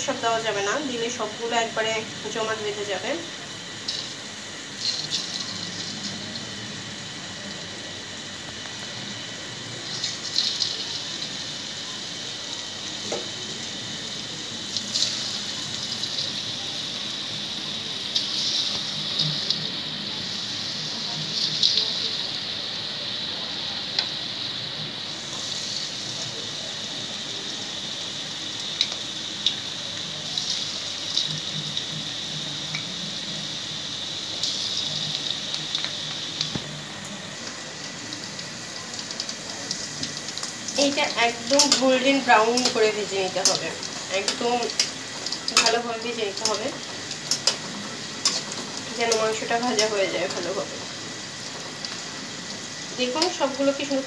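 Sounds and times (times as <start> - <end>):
chicken deep-frying in hot oil: 0.0 - 54.0.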